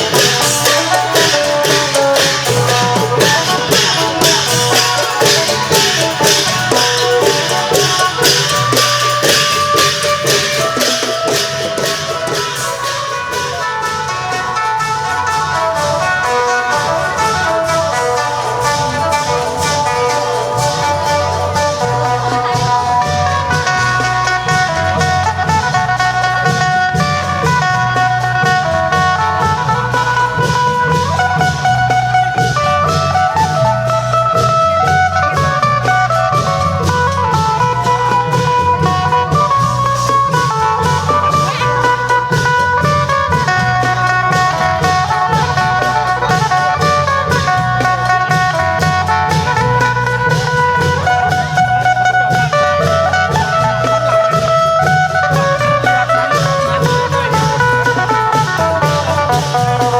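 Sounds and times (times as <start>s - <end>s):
long drums beating: 0.0s - 59.9s
plucked lute melody: 0.0s - 59.9s.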